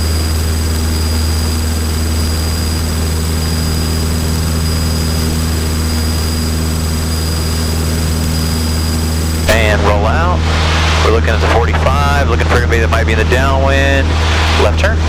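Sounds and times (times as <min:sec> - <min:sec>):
faint high-pitched whines: 0:00.0 - 0:14.0
propeller plane engine droning: 0:00.0 - 0:15.0.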